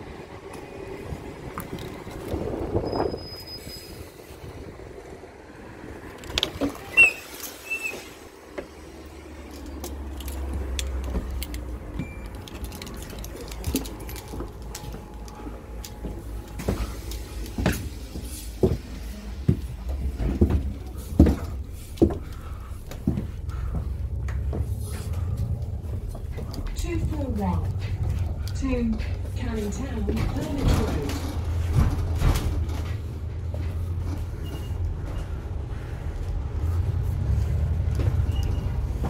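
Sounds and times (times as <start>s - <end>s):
bus engine low rumble: 0.0s - 39.0s.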